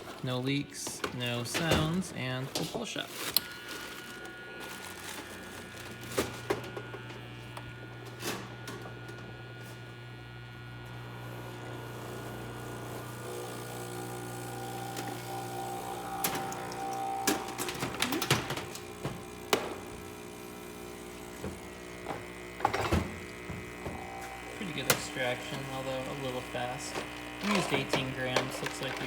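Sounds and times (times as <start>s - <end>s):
espresso machine pump humming: 3.1s - 29.0s.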